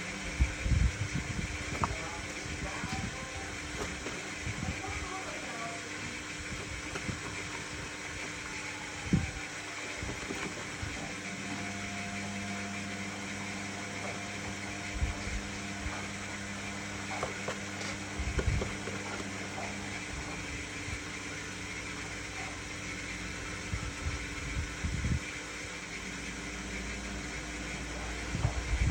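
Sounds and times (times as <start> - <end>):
washing machine motor hum: 0.0 - 28.9.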